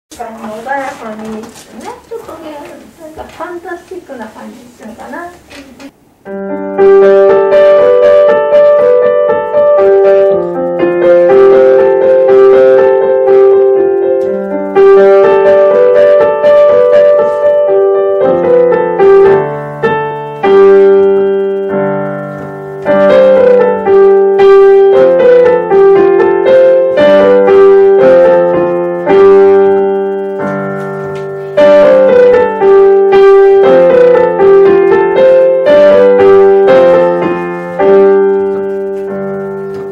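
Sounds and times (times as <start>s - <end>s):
slow digital piano melody: 6.0s - 39.9s.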